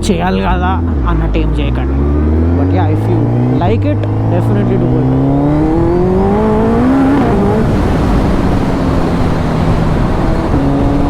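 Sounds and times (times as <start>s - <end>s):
motorcycle engine accelerating: 0.0s - 11.0s
rushing wind noise: 1.8s - 11.0s.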